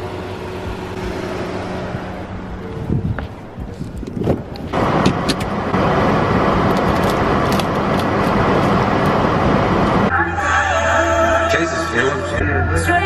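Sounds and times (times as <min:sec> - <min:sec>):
car running: 0:00.0 - 0:13.0.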